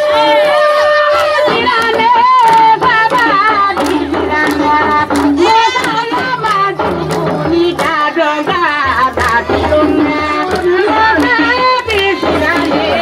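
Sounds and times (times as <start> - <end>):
percussive beat: 0.0 - 13.0
voices singing together: 0.0 - 13.0.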